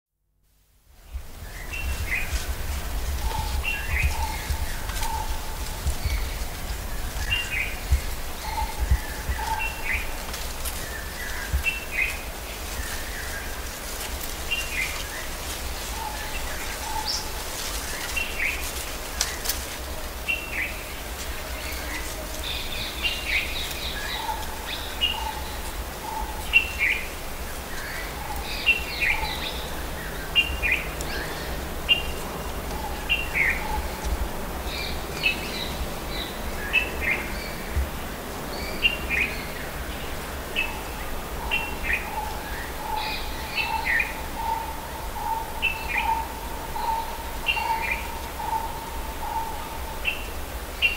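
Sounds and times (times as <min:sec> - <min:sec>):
low wind rumble: 0:00.6 - 0:50.9.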